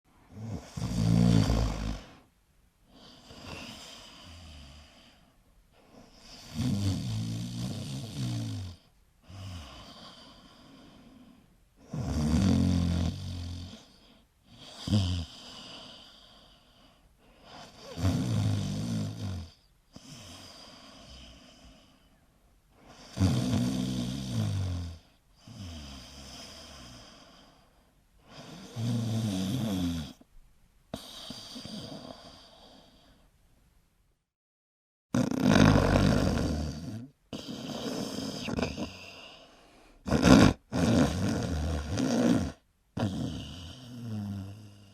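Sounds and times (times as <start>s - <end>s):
person snoring: 0.3s - 2.3s, 3.0s - 5.2s, 6.0s - 16.8s, 17.5s - 22.0s, 22.9s - 27.6s, 28.2s - 30.2s, 30.9s - 33.2s, 35.1s - 44.9s.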